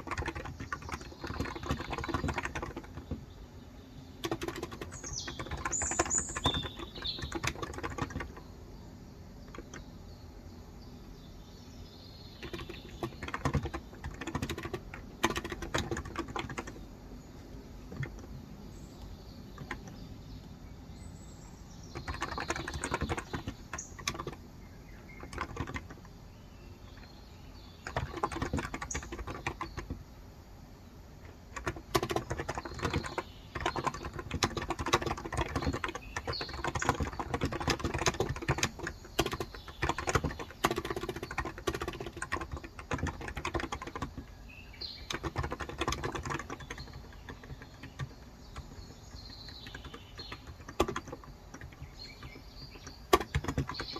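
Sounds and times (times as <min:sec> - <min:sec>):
keyboard typing: 0:00.0 - 0:03.4, 0:04.2 - 0:08.5, 0:09.4 - 0:09.9, 0:12.4 - 0:20.1, 0:21.9 - 0:26.1, 0:27.8 - 0:30.0, 0:31.2 - 0:53.9
faint bird chirps: 0:00.0 - 0:14.7, 0:15.3 - 0:30.0, 0:31.6 - 0:53.9.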